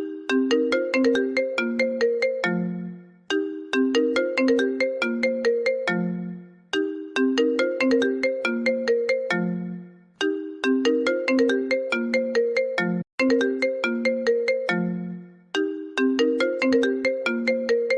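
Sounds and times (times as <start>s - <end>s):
mobile phone ringtone melody: 0.0s - 17.9s.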